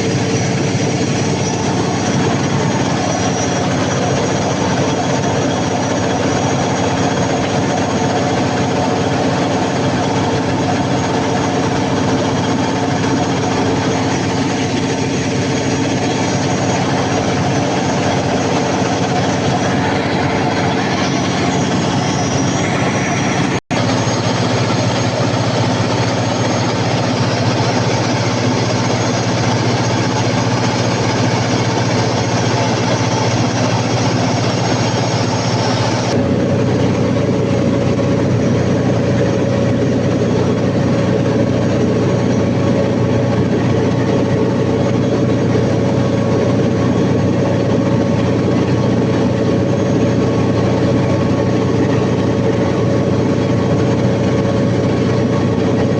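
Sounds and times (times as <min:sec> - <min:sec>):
diesel generator engine droning: 0:00.0 - 0:55.9.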